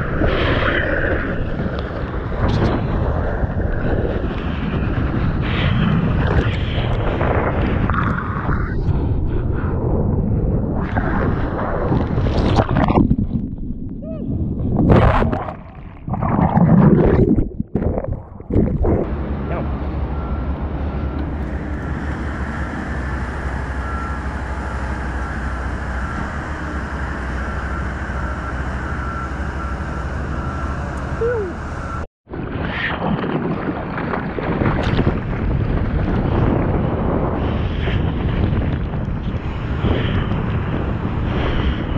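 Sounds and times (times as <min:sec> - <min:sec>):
low hum: 0:00.0 - 0:41.9
wind buffeting microphone: 0:00.0 - 0:41.9.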